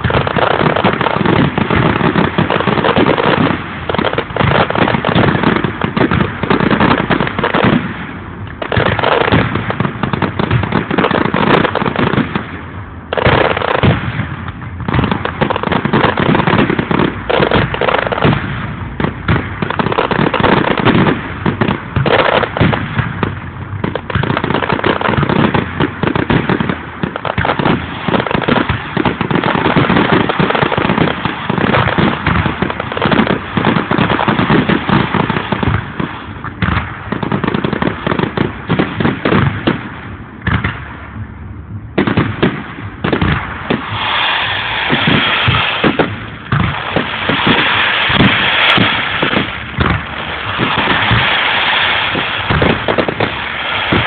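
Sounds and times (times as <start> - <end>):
firework shells bursting: 0.0 - 41.2, 41.9 - 54.0.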